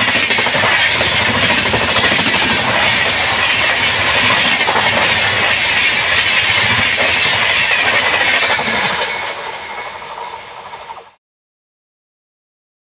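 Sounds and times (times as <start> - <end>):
train rushing past: 0.0 - 11.2
wheels clattering over rails: 0.0 - 11.2.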